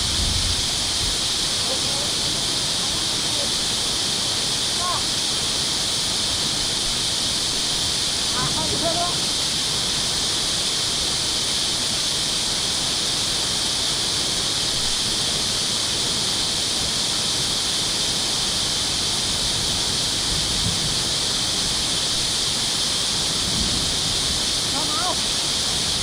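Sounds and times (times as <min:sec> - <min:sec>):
water rushing through dam outlet: 0:00.0 - 0:26.0.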